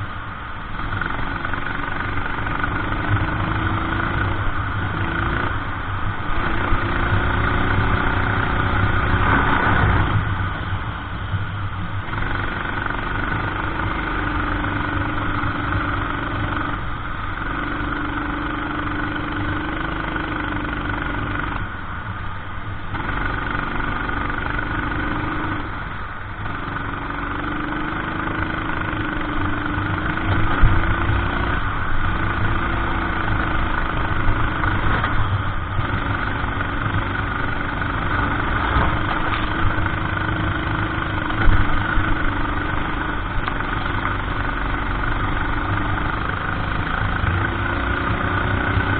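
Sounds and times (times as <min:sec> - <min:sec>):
kart engine at speed: 0:00.0 - 0:48.9.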